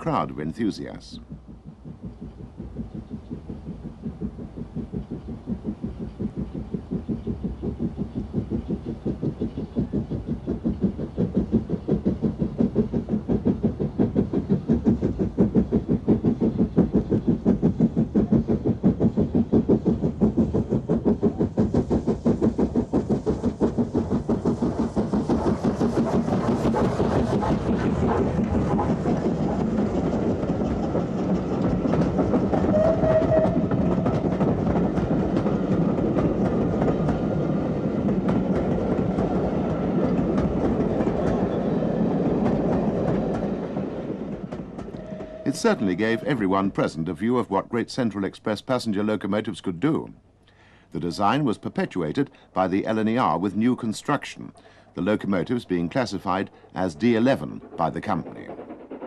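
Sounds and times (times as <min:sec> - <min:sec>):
steam locomotive exhaust beats: 0:00.0 - 0:59.0
train wheels on rails: 0:00.0 - 0:59.0.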